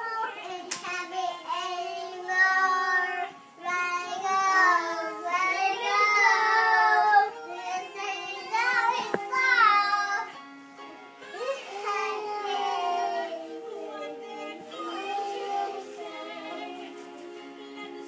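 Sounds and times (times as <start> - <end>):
song playing on tv: 0.0 - 18.0.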